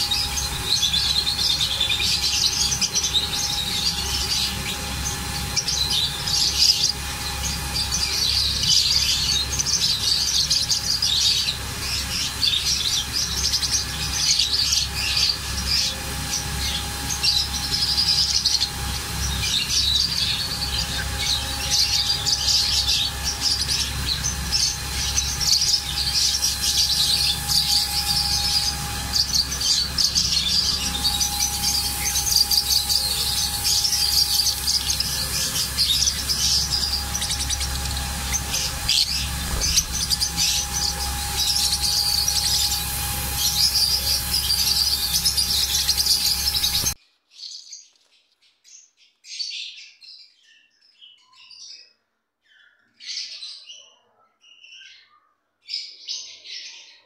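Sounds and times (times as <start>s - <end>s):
faint steady hum: 0.0s - 47.0s
lovebirds chirping: 0.0s - 47.0s.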